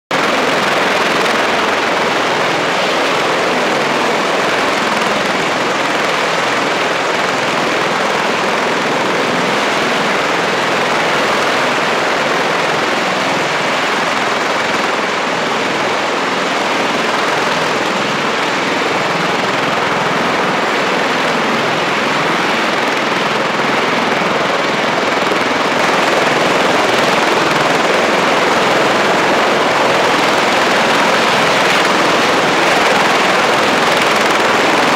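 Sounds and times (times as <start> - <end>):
helicopter turbine and rotor roar: 0.1 - 34.9.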